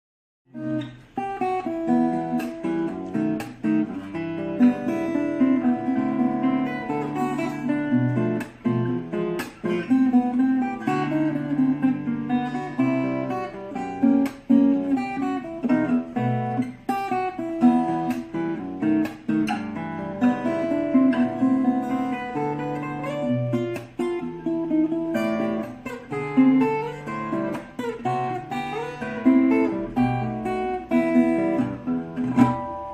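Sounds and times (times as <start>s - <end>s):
acoustic guitar playing: 0.5s - 32.9s.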